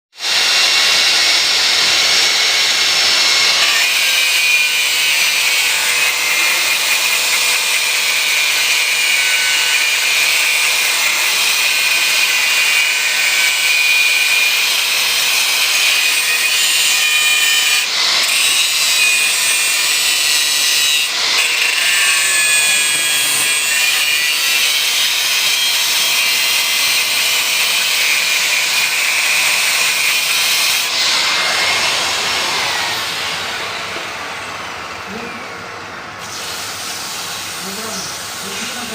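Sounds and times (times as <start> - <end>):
grinder hissing on metal: 0.2 - 35.5, 36.2 - 38.9.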